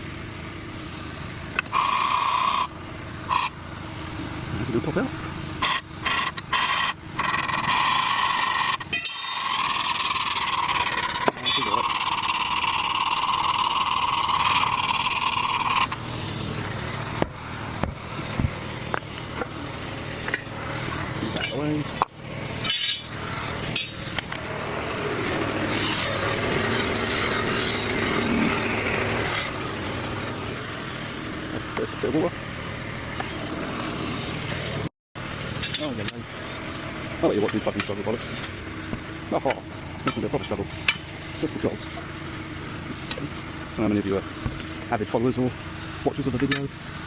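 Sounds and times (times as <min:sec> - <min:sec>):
steady mechanical running noise: 0:00.0 - 0:47.0.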